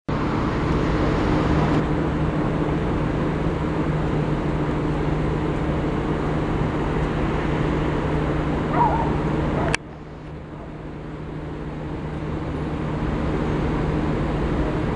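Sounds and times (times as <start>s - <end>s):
bus engine cooling fan rushing: 0.1s - 14.9s
bus engine hum: 0.1s - 14.9s.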